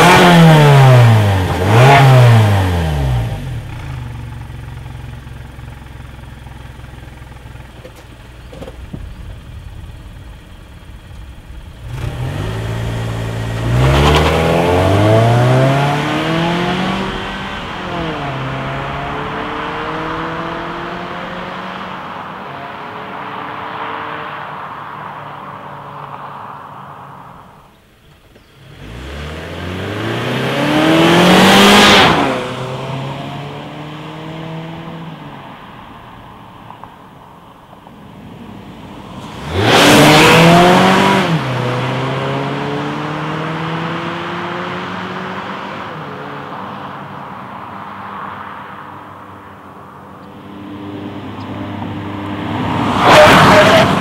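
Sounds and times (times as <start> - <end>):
car engine revving at full throttle: 0.0 - 24.6, 28.6 - 35.4, 38.1 - 47.3, 48.3 - 54.0.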